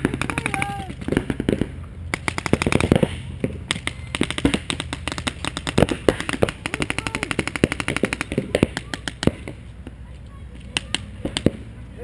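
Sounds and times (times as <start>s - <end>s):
paintball guns firing: 0.0s - 9.6s, 10.6s - 11.7s.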